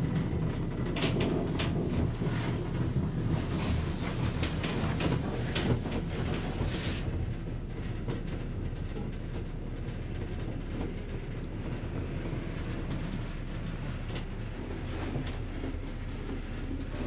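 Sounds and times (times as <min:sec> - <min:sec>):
elevator car rumbling: 0:00.0 - 0:17.0.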